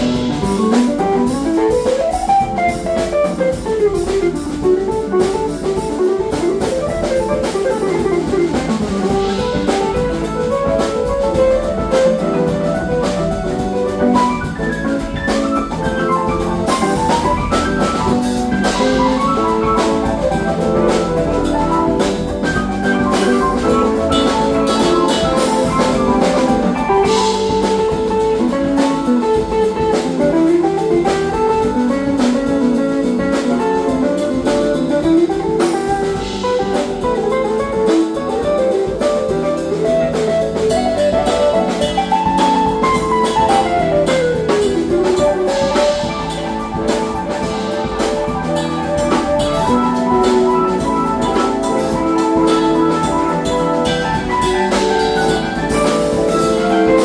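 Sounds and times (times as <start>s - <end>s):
funk band playing: 0.0s - 57.0s
sliding guitar lead line: 0.0s - 57.0s.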